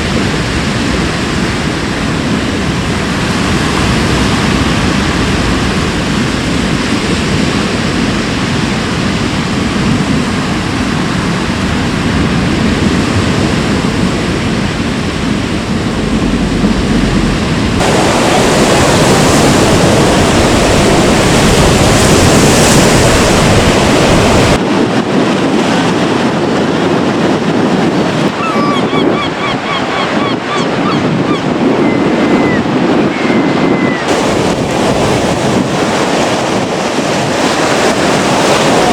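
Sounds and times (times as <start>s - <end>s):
surf breaking ashore: 0.0s - 38.9s
wind buffeting microphone: 0.0s - 38.9s.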